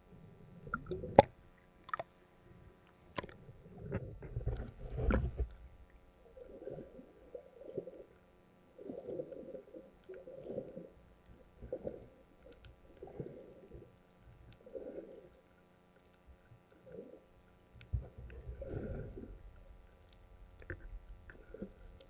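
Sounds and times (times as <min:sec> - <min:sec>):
underwater water sloshing: 0:00.1 - 0:22.0.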